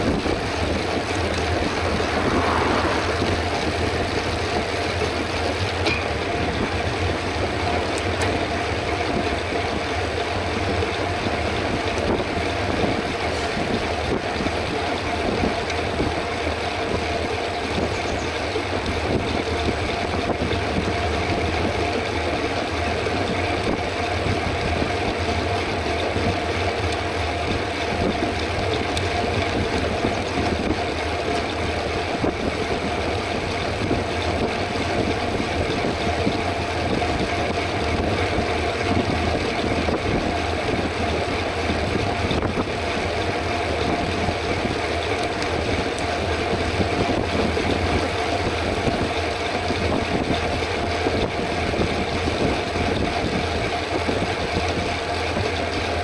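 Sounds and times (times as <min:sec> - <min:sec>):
bike tyre road noise: 0:00.0 - 0:56.0
wind rushing over microphone: 0:00.0 - 0:56.0.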